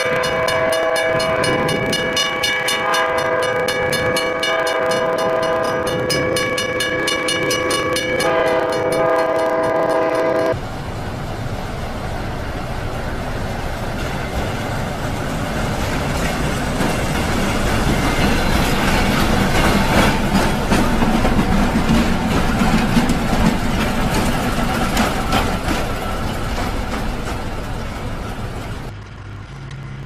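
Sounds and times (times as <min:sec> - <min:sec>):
wheels clicking over rail joints: 0:00.0 - 0:10.6, 0:11.2 - 0:30.0
diesel locomotive rumble: 0:00.0 - 0:30.0.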